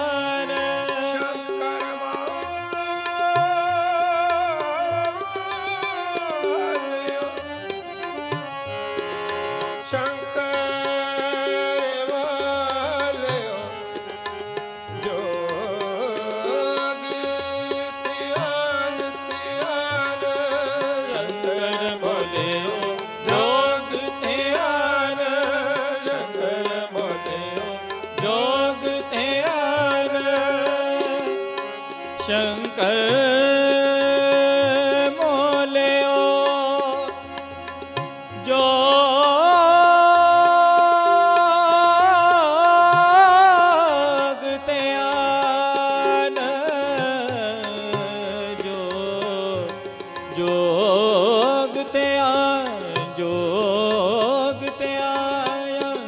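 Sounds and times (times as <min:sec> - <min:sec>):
man singing a hymn: 0:00.0 - 0:08.2, 0:09.7 - 0:14.2, 0:14.9 - 0:37.5, 0:38.3 - 0:56.0
harmoniums holding chords: 0:00.0 - 0:56.0
tabla rhythm: 0:00.0 - 0:56.0.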